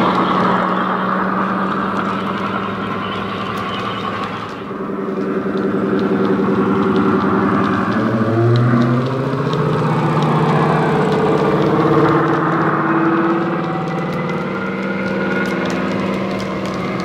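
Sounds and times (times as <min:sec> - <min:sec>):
diesel engine through small speaker: 0:00.0 - 0:17.0.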